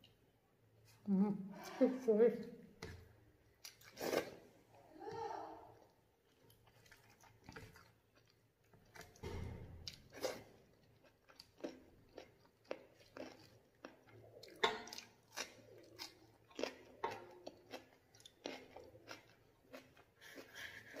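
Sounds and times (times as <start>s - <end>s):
person chewing food: 2.8s - 4.8s, 5.7s - 21.0s.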